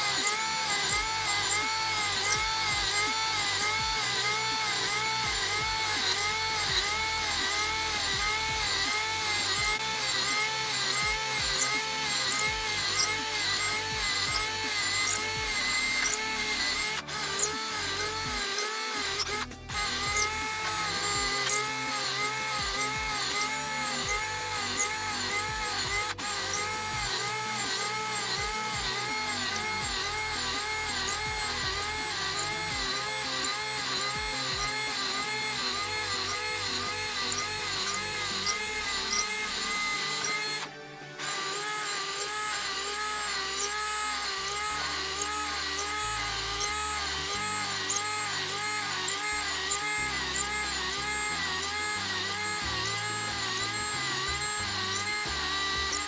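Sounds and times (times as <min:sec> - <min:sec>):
background music with stepping bass: 0:00.0 - 0:56.0.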